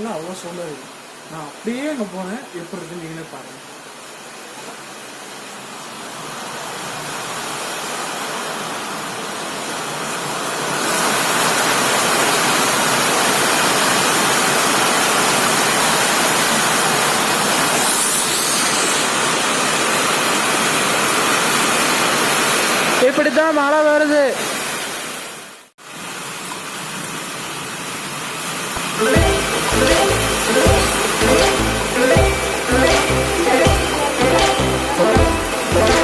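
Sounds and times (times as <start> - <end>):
heavy rain hissing: 0.0 - 23.2, 24.4 - 36.0.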